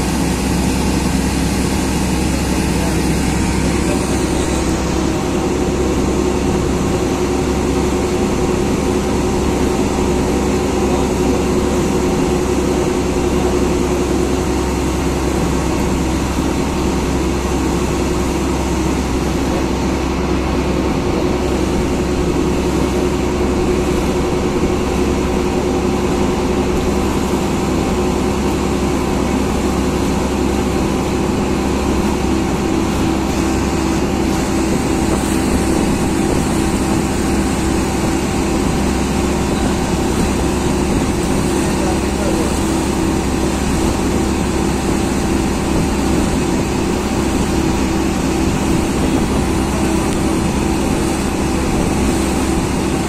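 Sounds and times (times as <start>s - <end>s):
boat motor droning: 0.0s - 53.0s
water splashing along hull: 0.0s - 53.0s.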